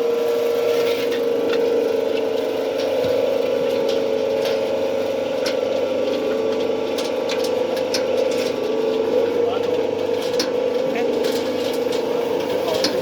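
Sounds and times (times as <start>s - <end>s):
motor and gearbox hum: 0.0s - 13.0s.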